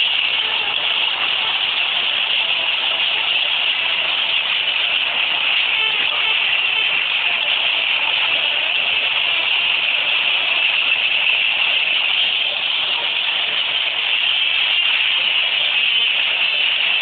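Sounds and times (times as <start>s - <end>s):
washing machine churning: 0.0s - 17.0s.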